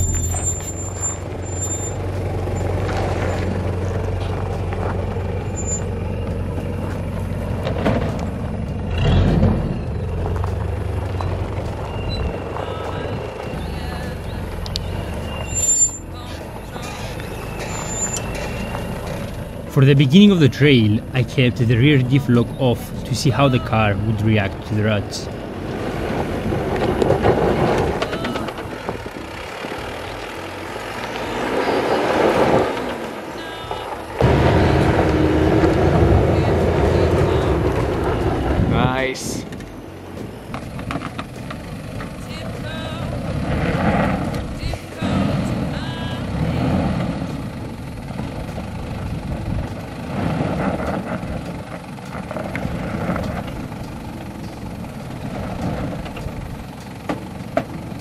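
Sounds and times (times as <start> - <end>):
car engine under load: 0.0 - 58.0.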